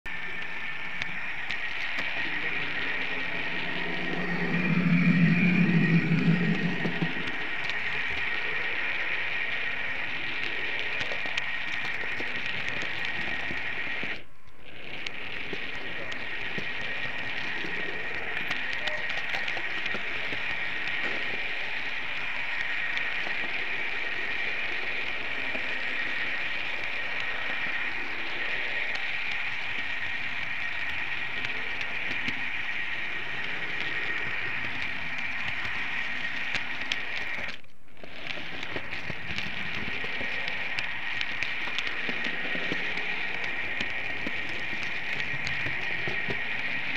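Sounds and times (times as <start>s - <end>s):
model train running on track: 0.1s - 37.6s, 38.2s - 46.9s
faint clicks: 0.1s - 46.9s
low hum: 0.1s - 46.9s.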